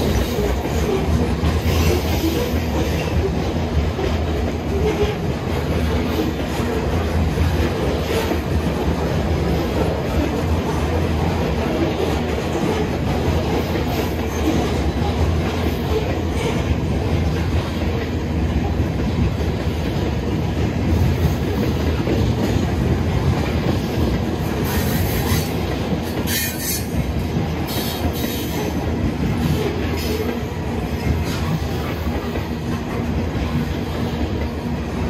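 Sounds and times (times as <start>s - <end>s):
freight train wheels clattering: 0.0s - 35.0s.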